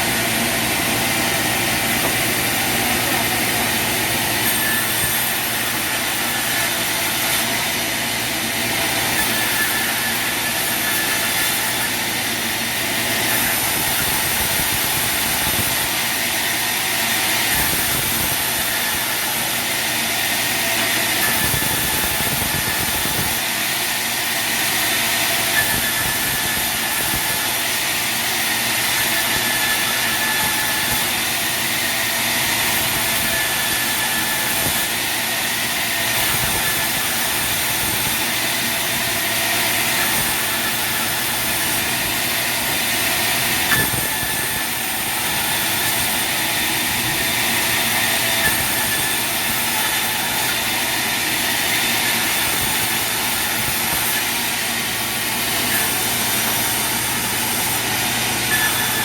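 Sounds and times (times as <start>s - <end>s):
sawmill machinery whining: 0.0s - 59.0s.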